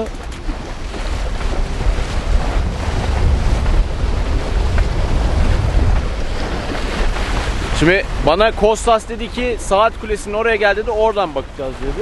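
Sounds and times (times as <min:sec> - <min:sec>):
rushing sea water: 0:00.0 - 0:12.0
wind buffeting microphone: 0:00.0 - 0:12.0.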